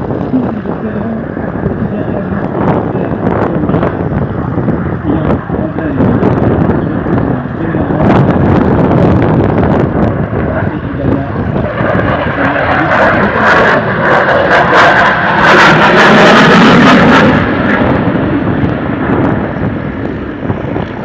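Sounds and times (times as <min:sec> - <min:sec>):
fighter jet roaring: 0:00.0 - 0:21.0
jet engine crackling: 0:00.0 - 0:21.0.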